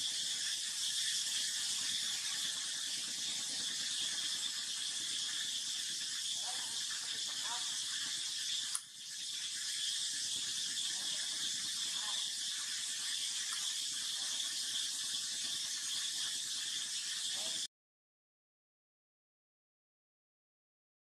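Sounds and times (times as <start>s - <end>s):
high-pitched outdoor hiss: 0.0s - 17.7s.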